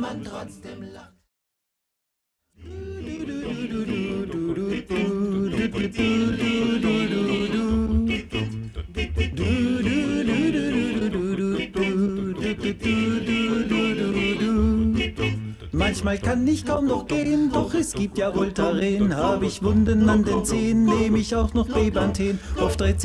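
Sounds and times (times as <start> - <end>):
male group singing in harmony: 0.0 - 1.2, 2.6 - 23.0.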